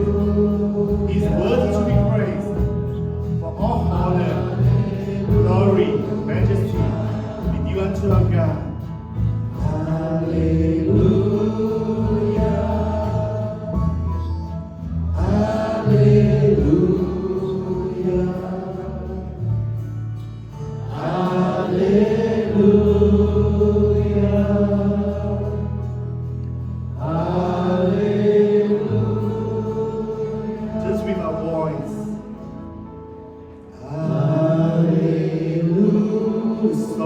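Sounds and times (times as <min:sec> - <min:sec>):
group singing worship song: 0:00.0 - 0:32.6, 0:33.5 - 0:37.0
sustained instrumental backing: 0:00.0 - 0:37.0.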